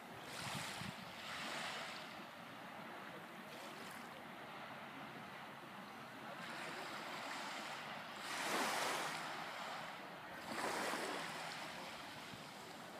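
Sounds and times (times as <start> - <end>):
gentle surf on sandy beach: 0.0 - 12.9
waves breaking: 0.0 - 12.9.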